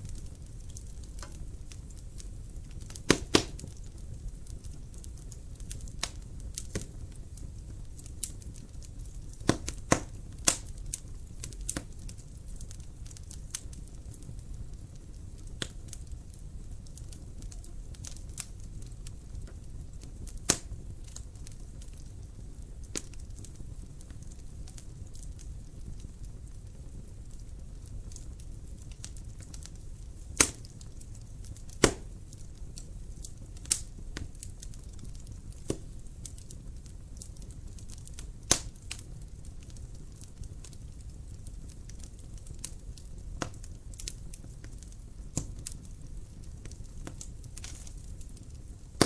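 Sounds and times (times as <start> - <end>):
fire crackling in fireplace: 0.0 - 49.0.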